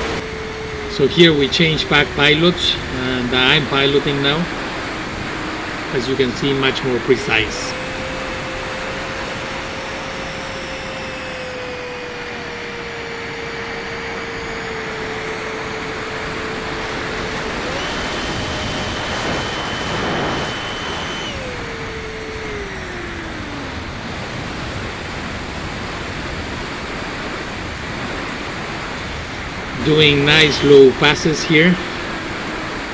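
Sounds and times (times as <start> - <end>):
air noise: 0.0 - 32.9
model airplane electric motor whine: 0.0 - 32.9.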